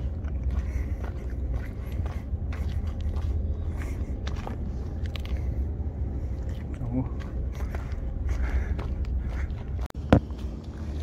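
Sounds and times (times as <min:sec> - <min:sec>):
footsteps on concrete: 0:00.0 - 0:11.0
steady low rumble: 0:00.0 - 0:11.0.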